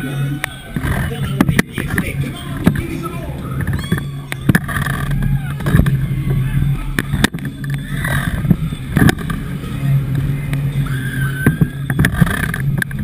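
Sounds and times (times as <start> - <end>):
ride machine hum: 0.0 - 13.0.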